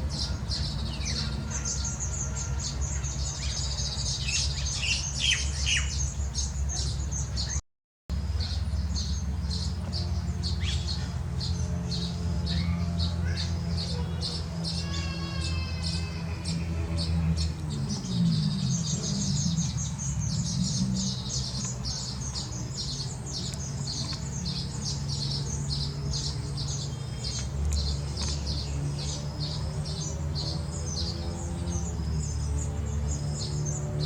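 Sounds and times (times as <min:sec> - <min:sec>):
flock of birds chirping: 0:00.0 - 0:34.0.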